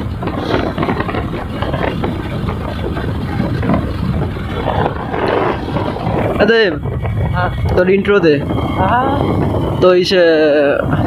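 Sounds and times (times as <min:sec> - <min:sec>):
motorcycle engine running: 0:00.0 - 0:11.0
road noise: 0:00.0 - 0:11.0
wind on microphone: 0:00.0 - 0:11.0.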